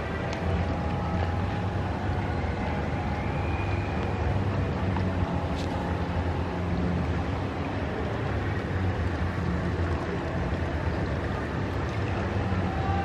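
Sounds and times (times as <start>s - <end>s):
motor running with low rumble: 0.0s - 13.0s.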